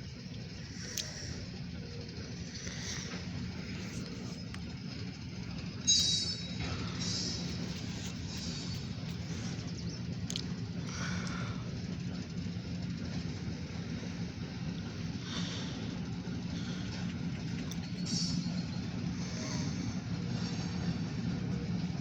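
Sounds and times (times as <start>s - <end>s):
diesel locomotive engine rumble: 0.0s - 22.0s.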